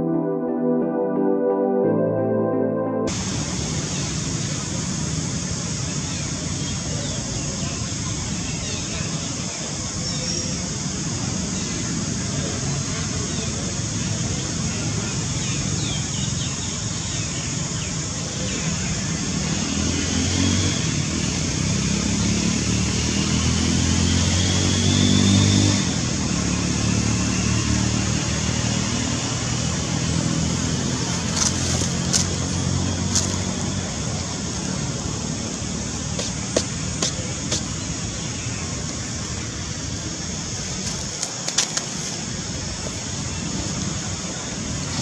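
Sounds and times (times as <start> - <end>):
outdoor hiss: 3.1 - 45.0.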